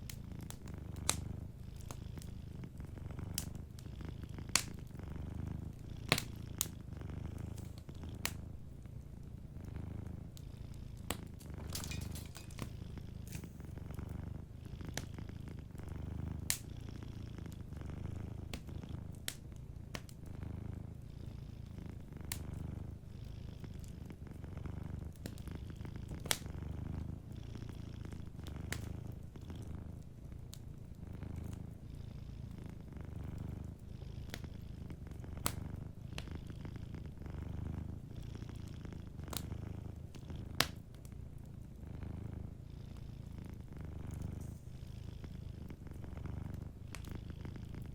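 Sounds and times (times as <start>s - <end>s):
wood fire crackling and popping: 0.0s - 20.9s, 22.3s - 22.9s, 23.6s - 31.8s, 33.2s - 36.9s, 37.6s - 41.4s, 43.5s - 44.5s, 45.6s - 47.9s
cat purring: 0.0s - 47.9s.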